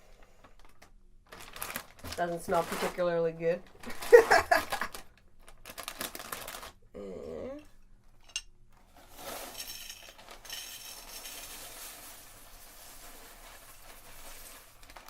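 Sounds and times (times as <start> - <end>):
packaging rustling: 0.4 - 6.8, 8.8 - 15.0.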